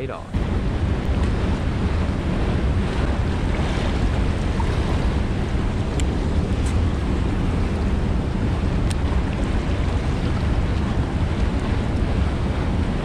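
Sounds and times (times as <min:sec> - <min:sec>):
churning water rushing: 0:00.0 - 0:13.0
wind buffeting microphone: 0:00.0 - 0:13.0.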